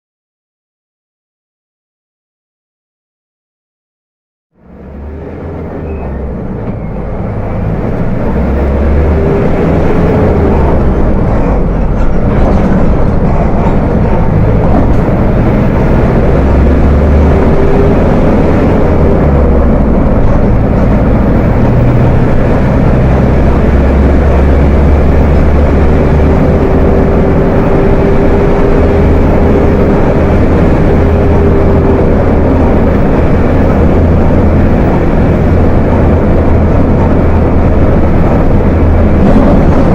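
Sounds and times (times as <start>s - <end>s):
bus engine deep rumble: 4.5s - 39.9s.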